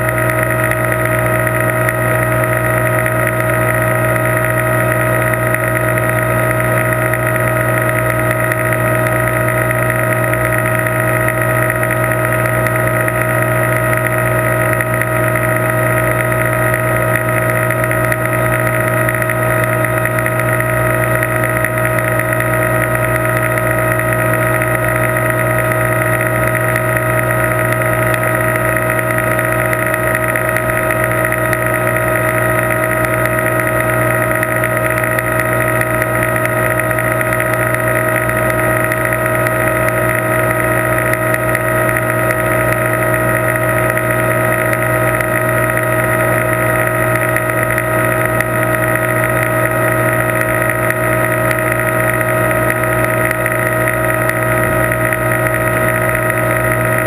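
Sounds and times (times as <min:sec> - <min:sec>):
aquarium pump humming: 0:00.0 - 0:57.0.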